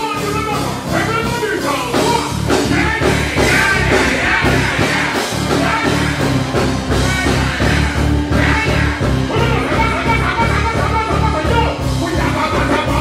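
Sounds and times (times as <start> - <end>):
loud dancehall music: 1.8 - 13.0.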